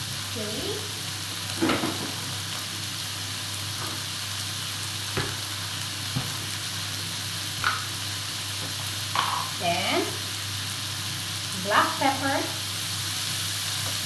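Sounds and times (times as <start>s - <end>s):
seafood sizzling in a skillet: 0.0s - 14.0s.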